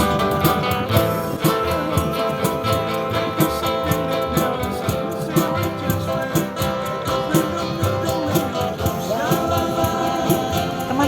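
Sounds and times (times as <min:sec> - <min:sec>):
guitar over a steady beat: 0:00.0 - 0:11.0
person singing: 0:00.0 - 0:11.0.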